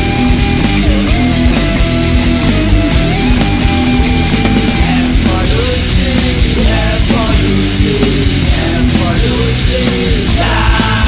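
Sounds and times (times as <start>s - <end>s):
distorted guitars: 0.0s - 11.0s
drums: 0.0s - 11.0s
grunge rock music: 0.0s - 11.0s
person singing: 0.6s - 11.0s.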